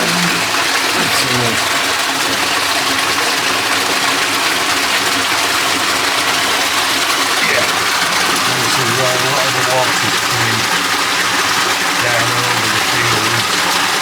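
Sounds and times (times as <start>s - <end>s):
floodwater rushing and splashing: 0.0s - 14.0s.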